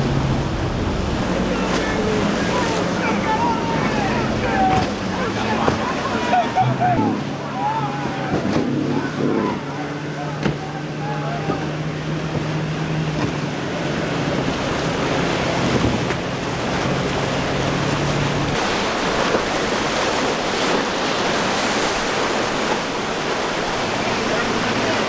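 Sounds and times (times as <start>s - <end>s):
outboard motor humming: 0.0s - 25.0s
waves breaking: 0.0s - 25.0s
wind: 0.0s - 25.0s.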